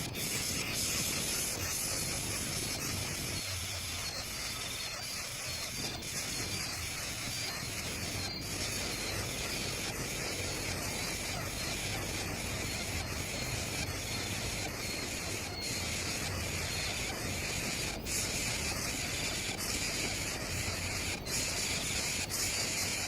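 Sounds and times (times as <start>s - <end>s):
insect chorus rasping hiss: 0.0s - 23.0s.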